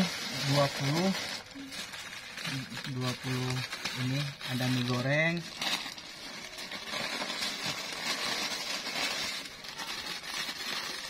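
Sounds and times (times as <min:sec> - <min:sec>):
plastic bag rustling: 0:00.0 - 0:11.0
plastic packets crinkling: 0:00.0 - 0:11.0.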